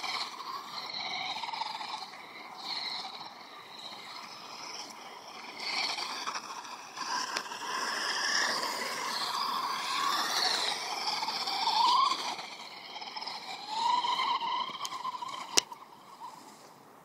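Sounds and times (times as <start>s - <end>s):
rc truck motor whining: 0.0s - 16.5s.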